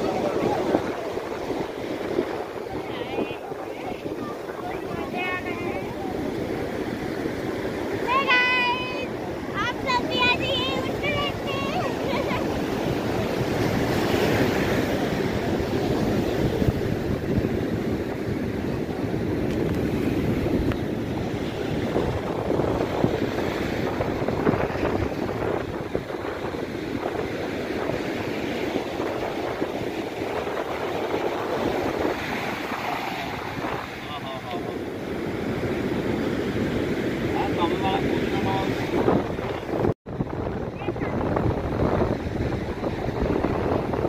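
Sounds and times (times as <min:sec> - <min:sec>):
surf washing up a beach: 0:00.0 - 0:44.0
wind buffeting the microphone: 0:00.0 - 0:44.0.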